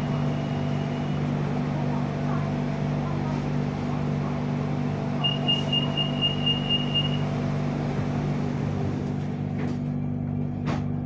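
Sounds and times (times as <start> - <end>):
train car humming: 0.0 - 11.0.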